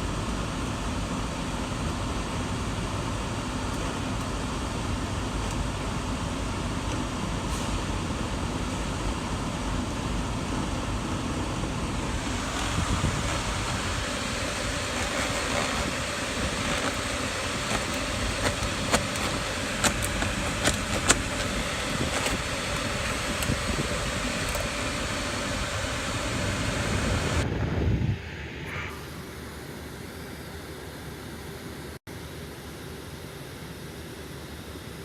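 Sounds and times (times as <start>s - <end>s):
blower fan air rushing: 0.0s - 35.0s
faint fan whine: 0.0s - 35.0s.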